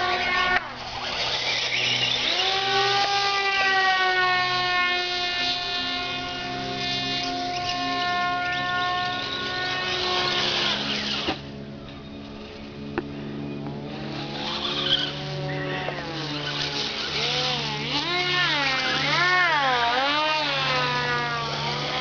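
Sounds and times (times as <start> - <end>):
model plane motor whining: 0.0 - 22.0.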